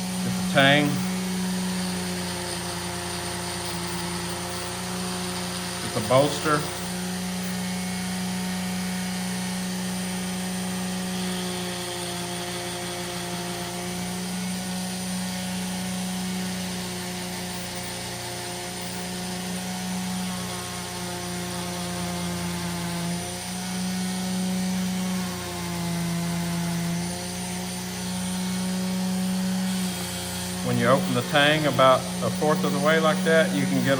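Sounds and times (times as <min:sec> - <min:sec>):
rotary tool with metal brush: 0:00.0 - 0:23.3, 0:26.2 - 0:33.9.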